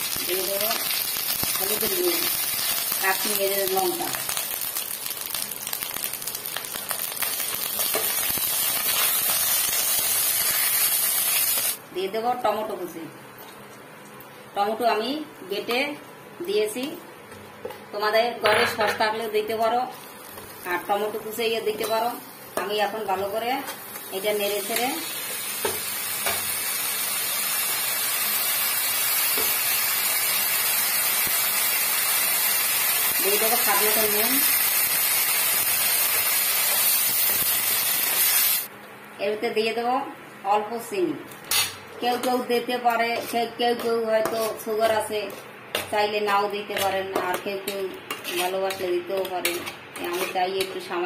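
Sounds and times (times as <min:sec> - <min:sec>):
spices sizzling in hot oil: 0:00.0 - 0:11.8, 0:19.2 - 0:38.7, 0:41.4 - 0:51.0.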